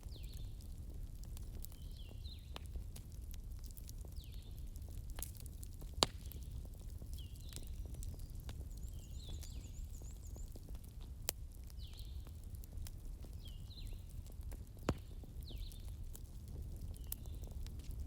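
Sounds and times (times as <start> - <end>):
sharp pops from fire: 0.0 - 18.0
wood fire crackling: 0.0 - 18.0.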